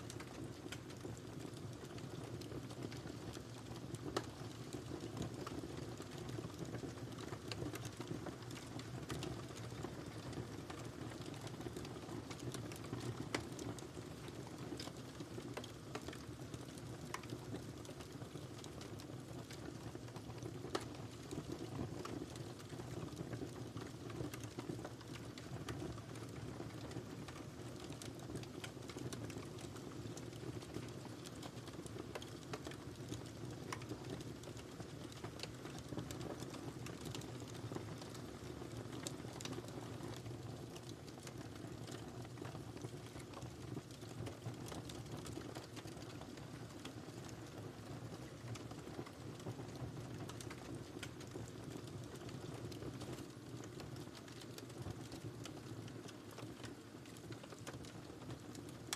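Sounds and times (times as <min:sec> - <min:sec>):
fire popping: 0:00.0 - 0:58.9
wood fire crackling: 0:00.0 - 0:58.9.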